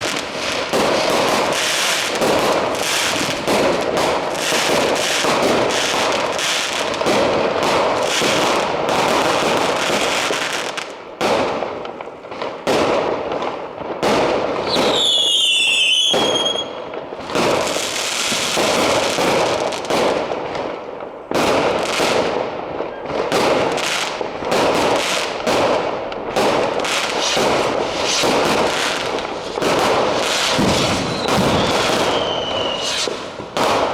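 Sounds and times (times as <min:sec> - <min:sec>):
whistling firework: 0:00.0 - 0:11.5, 0:14.0 - 0:33.9
fireworks bangs and crackles: 0:00.0 - 0:33.9.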